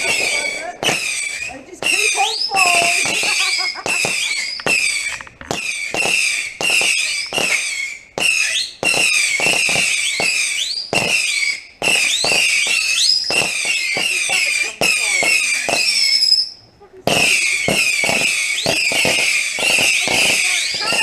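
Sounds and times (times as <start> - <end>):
firework cracks: 0.0 - 21.0
firework whistles: 0.0 - 21.0.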